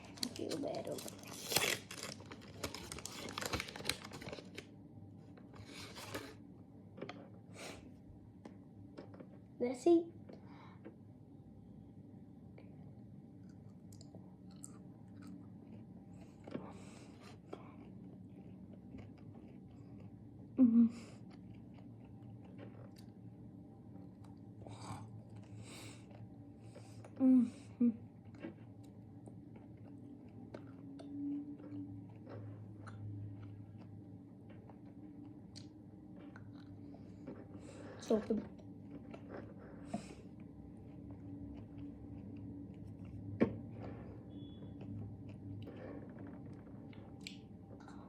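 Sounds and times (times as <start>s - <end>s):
chewing and crunching: 0.0s - 4.6s, 13.3s - 27.2s, 28.0s - 48.0s.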